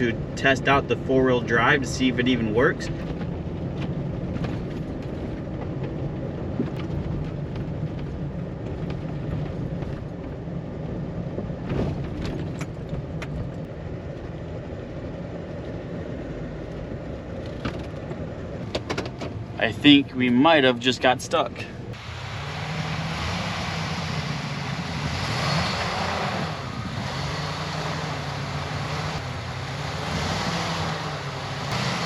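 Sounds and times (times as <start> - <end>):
truck engine running: 0.0 - 32.0
tyre and road noise: 0.0 - 32.0.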